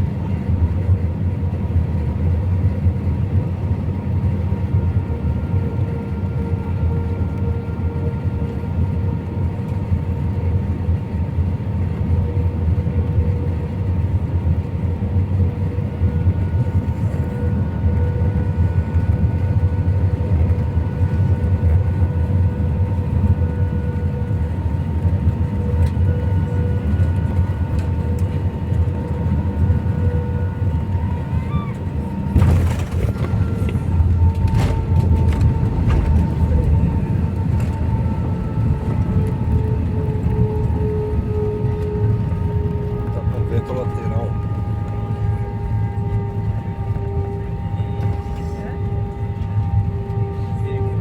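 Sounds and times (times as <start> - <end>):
airliner cabin engine rumble: 0.0 - 51.0
steady whining tones: 1.9 - 51.0.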